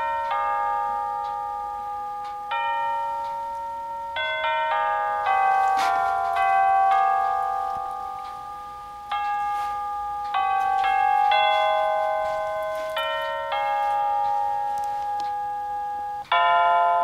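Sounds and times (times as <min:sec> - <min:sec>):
clock chime melody: 0:00.0 - 0:17.0.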